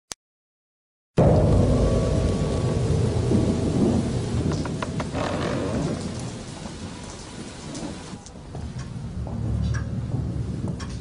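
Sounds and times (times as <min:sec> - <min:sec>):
deep rumble with hiss: 0:01.2 - 0:11.0.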